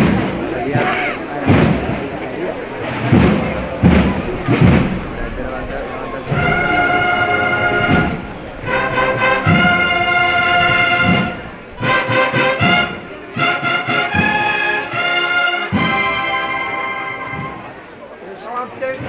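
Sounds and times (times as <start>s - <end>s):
drum beats: 0.0s - 17.8s, 18.8s - 19.0s
brass band marching: 0.0s - 19.0s.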